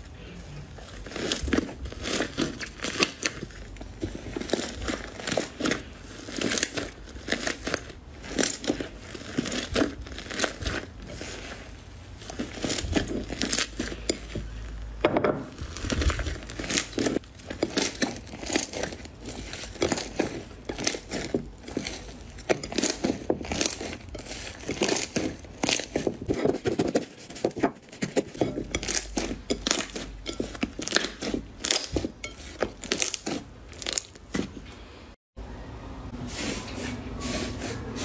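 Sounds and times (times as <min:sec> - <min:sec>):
slime crackling and popping: 0:00.8 - 0:27.6, 0:28.7 - 0:34.4.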